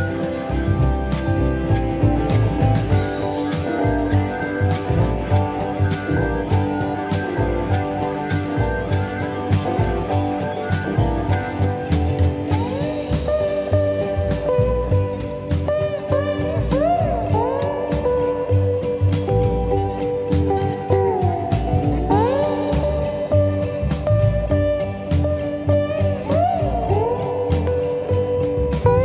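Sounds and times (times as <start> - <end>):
blues guitar: 0.0 - 29.0
lead guitar bending notes: 0.0 - 29.0
steady drum beat: 0.0 - 29.0.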